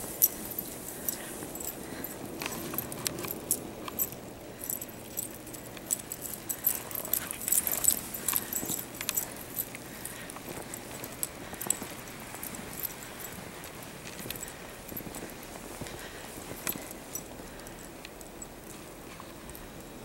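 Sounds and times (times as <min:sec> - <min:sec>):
dog collar tags jingling: 0:00.0 - 0:20.0.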